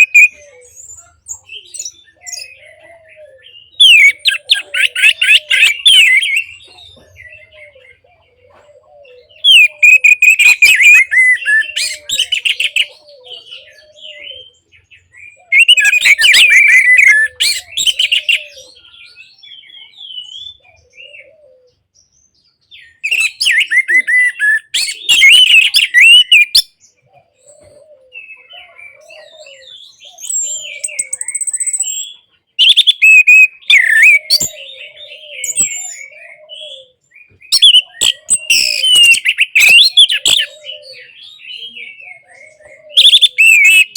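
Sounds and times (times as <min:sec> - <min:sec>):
scattered bird calls: 0:00.0 - 0:43.9.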